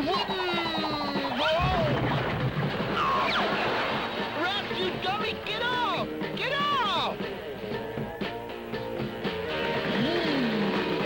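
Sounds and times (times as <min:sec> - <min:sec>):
cartoon music with guitar: 0:00.0 - 0:11.0.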